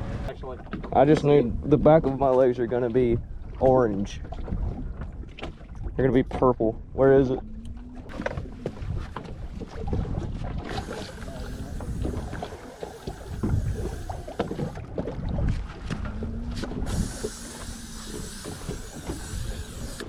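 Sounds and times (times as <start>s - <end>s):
water sloshing against hull: 0.0s - 20.0s
wind buffeting microphone: 0.0s - 20.0s.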